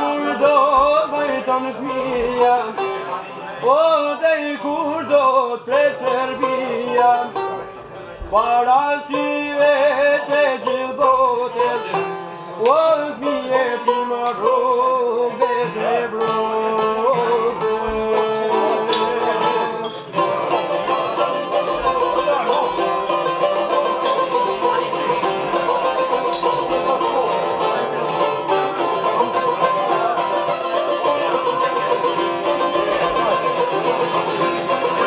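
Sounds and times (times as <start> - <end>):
lute plucked notes: 0.0 - 35.0.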